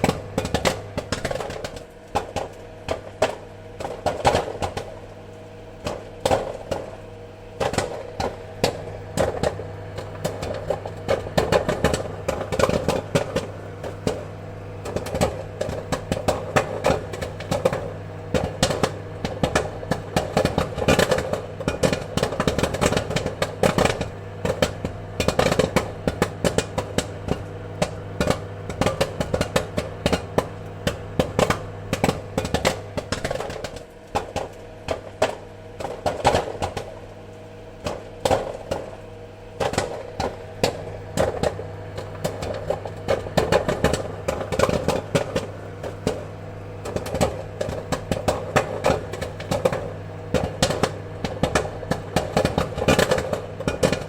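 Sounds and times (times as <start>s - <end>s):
popcorn popping: 0.0s - 54.0s
steady low hum: 0.0s - 54.0s.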